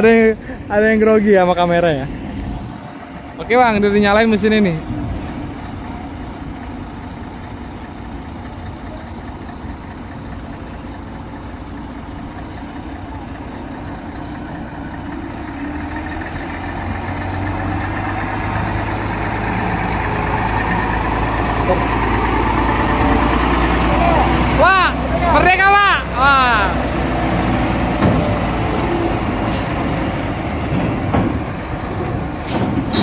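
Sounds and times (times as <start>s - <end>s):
diesel truck engine rumbling: 0.0s - 33.0s.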